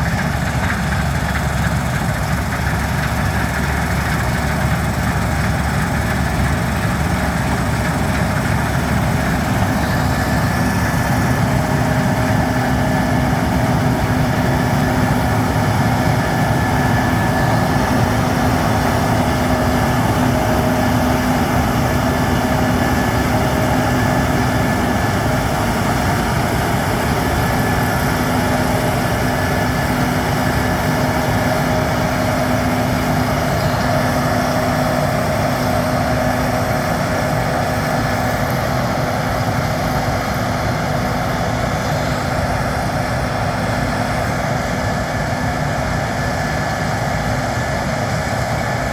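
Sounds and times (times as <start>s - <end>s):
combine harvester drone: 0.0s - 48.9s.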